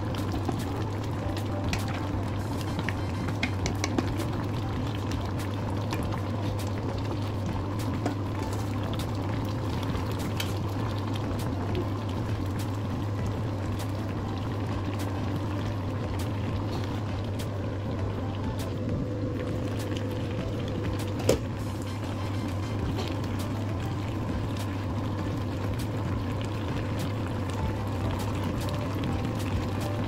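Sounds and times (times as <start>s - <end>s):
low hum: 0.0s - 30.0s
soup bubbling in a pan: 0.0s - 30.0s.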